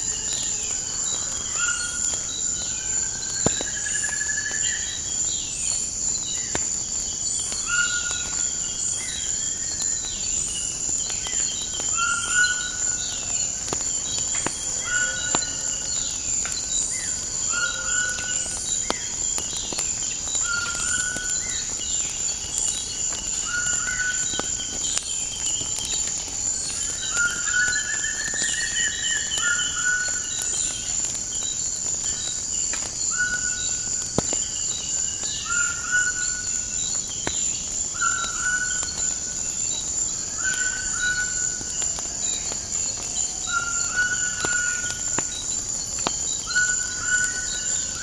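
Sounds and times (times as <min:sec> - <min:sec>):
fire crackling and popping: 0:00.0 - 0:48.0
insect trill: 0:00.0 - 0:48.0.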